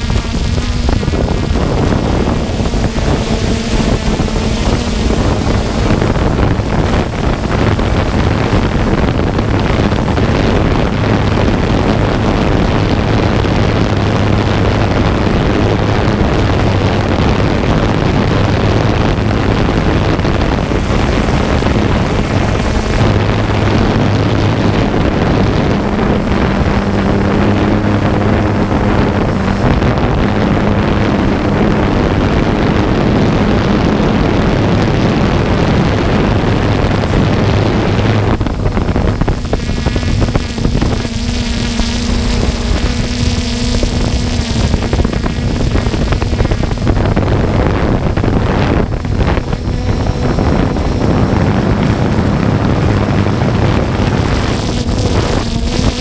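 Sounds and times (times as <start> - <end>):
drone motors humming: 0.0 - 56.0
wind on microphone: 0.0 - 56.0.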